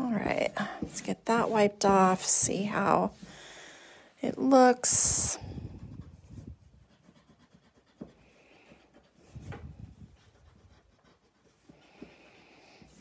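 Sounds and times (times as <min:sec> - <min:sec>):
eraser rubbing on paper: 0:00.2 - 0:03.3, 0:04.6 - 0:13.0.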